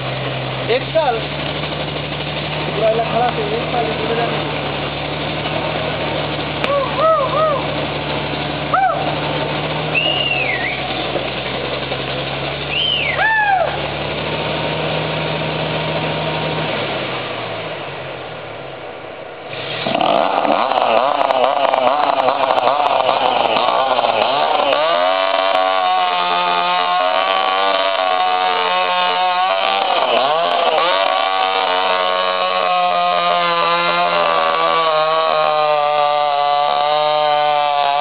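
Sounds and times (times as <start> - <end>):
chainsaw revving: 0.0 - 18.3, 19.5 - 38.0
low engine drone: 0.0 - 38.0.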